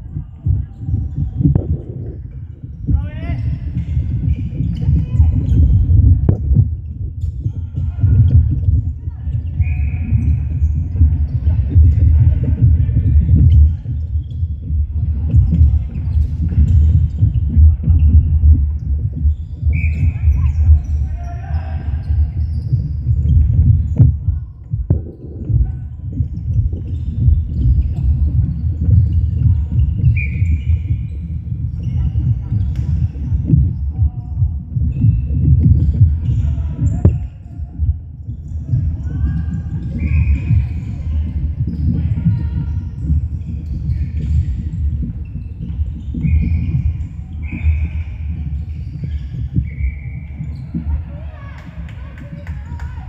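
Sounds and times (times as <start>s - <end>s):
sneakers squeaking on wooden floor: 0.6s - 53.0s.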